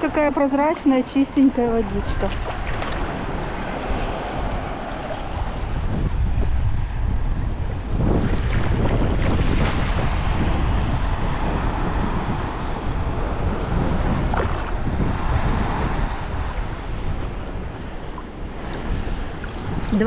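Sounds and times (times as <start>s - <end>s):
sea waves splashing: 0.0s - 6.7s, 7.7s - 20.0s
wind rumble on microphone: 0.0s - 20.0s.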